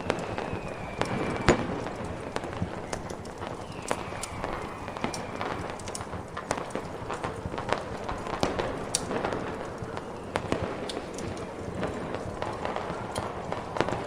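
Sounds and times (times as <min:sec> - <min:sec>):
fireworks popping and crackling: 0:00.0 - 0:14.0
rushing snowstorm wind: 0:00.0 - 0:14.0.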